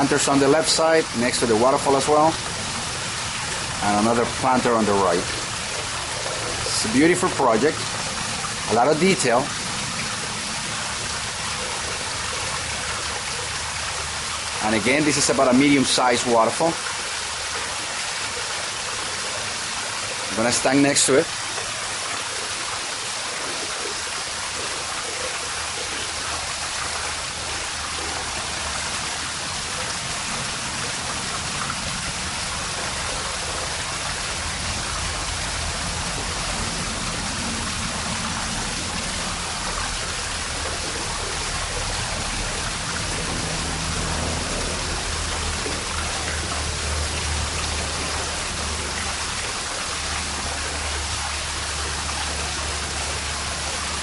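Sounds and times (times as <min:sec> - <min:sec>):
waterfall splashing into pool: 0:00.0 - 0:54.0.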